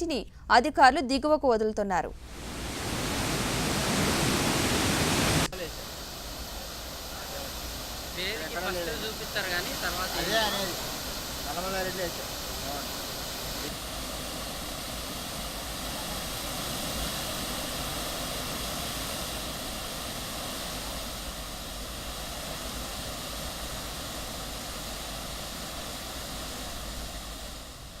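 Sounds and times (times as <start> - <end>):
water rushing through spillway: 2.2 - 28.0.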